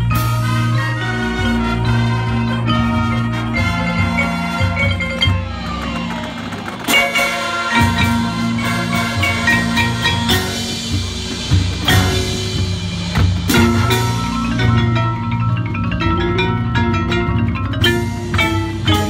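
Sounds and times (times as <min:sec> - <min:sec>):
marching band brass chords: 0:00.0 - 0:19.0
marimba and vibraphone lines: 0:00.0 - 0:19.0
sharp percussion hits: 0:00.0 - 0:19.0.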